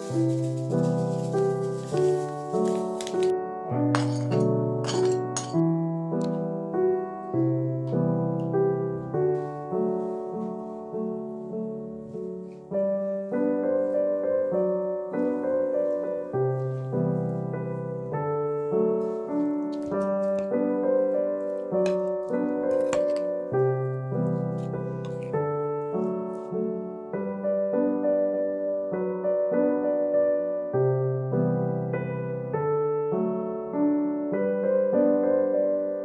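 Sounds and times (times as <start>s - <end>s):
gentle solo piano: 0.0s - 36.0s.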